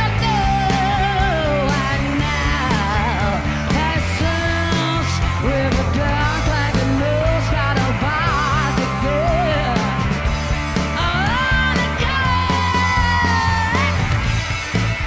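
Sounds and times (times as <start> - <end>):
woman singing: 0.0 - 10.2, 10.9 - 14.2
live rock band playing: 0.0 - 15.0.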